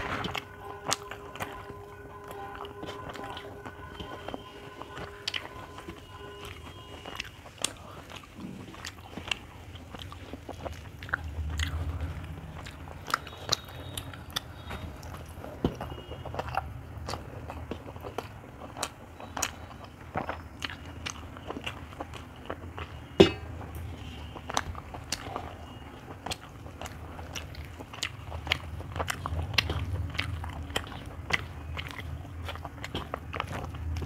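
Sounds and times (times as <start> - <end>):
chewing with mouth clicks: 0.0 - 34.0.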